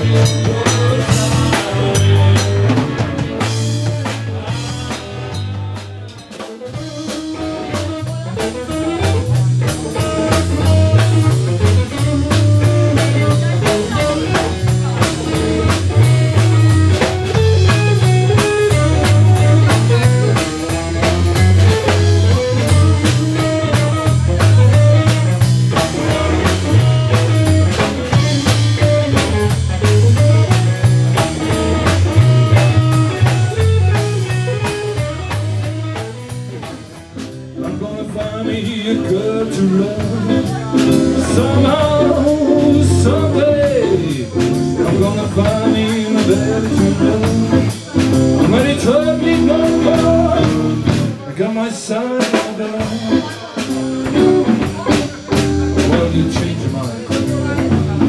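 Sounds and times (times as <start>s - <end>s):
blues rock band playing: 0.0s - 58.0s.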